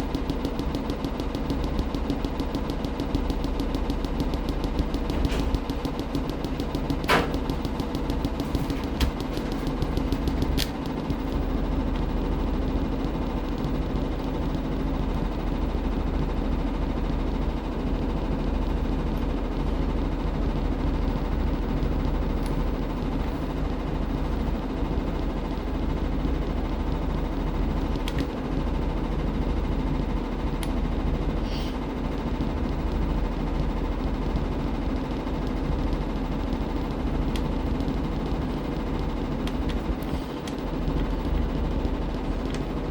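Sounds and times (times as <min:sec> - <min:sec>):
washing machine running: 0:00.0 - 0:42.9.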